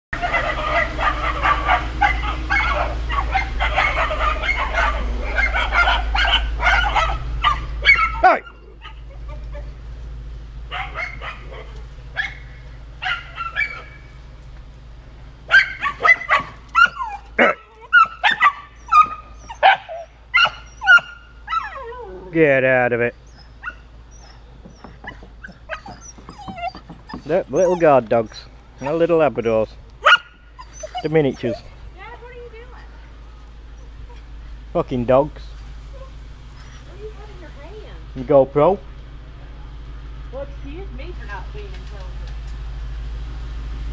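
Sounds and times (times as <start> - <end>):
small dogs barking: 0.2 - 14.4, 15.0 - 37.8
low steady rumble: 0.2 - 43.9.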